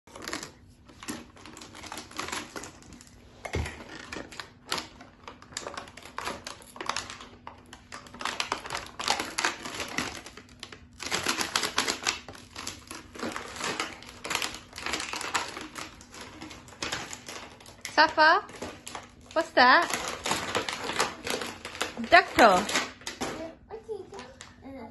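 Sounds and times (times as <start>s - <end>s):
plastic toy pieces clattering: 0.1s - 3.0s, 3.6s - 23.5s
plastic packaging crinkling: 0.1s - 24.6s.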